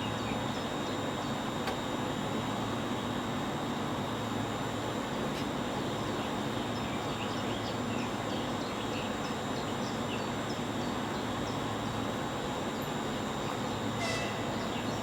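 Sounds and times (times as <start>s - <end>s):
electric train low hum: 0.0s - 15.0s.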